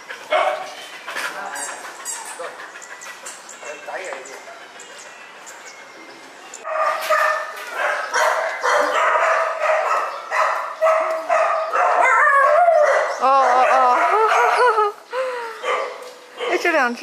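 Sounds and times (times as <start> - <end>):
dogs barking: 0.0 - 5.8, 6.6 - 15.0, 15.6 - 17.0
dogs yelping: 0.0 - 16.9.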